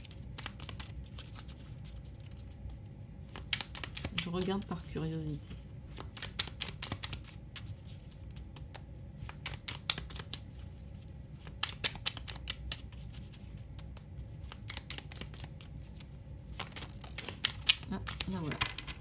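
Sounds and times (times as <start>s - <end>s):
cards clicking and snapping: 0.0s - 4.5s, 5.4s - 10.6s, 11.3s - 19.0s.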